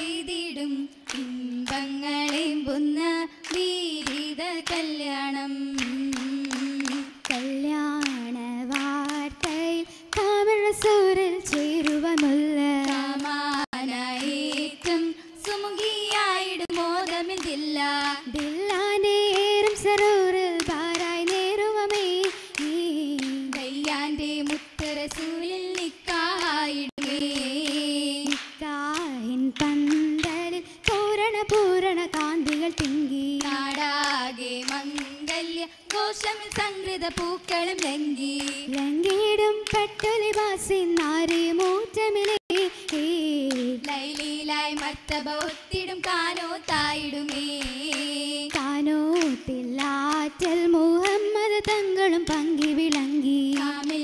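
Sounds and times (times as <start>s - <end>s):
girls singing together: 0.0s - 54.0s
rhythmic hand claps: 0.0s - 54.0s.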